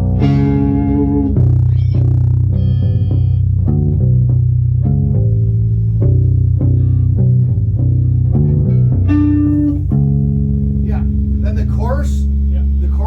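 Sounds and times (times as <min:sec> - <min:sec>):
bass guitar riff: 0:00.0 - 0:13.0
guitar playing: 0:00.0 - 0:13.0.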